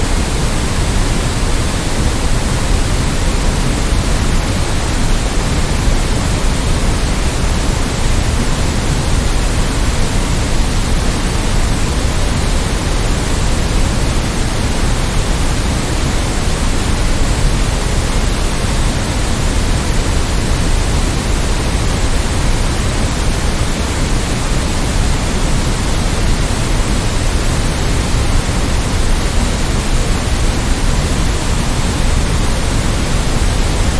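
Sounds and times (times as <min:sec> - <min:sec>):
steady synthetic hiss: 0:00.0 - 0:33.9.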